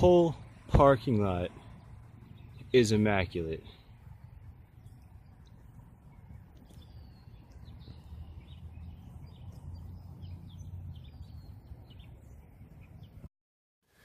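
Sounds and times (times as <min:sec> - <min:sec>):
low outdoor rumble: 0:00.0 - 0:13.3
small birds chirping: 0:00.3 - 0:13.3.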